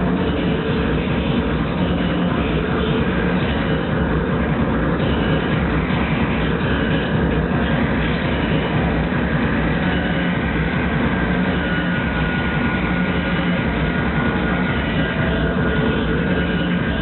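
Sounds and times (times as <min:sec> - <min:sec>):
distorted industrial noise music: 0:00.0 - 0:17.0
low drone: 0:00.0 - 0:17.0.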